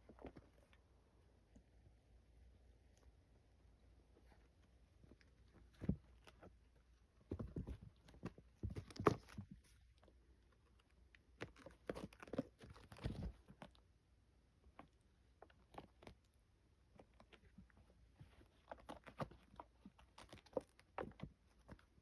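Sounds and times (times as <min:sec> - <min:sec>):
kittens scuffling: 0:02.7 - 0:13.9, 0:14.7 - 0:22.0.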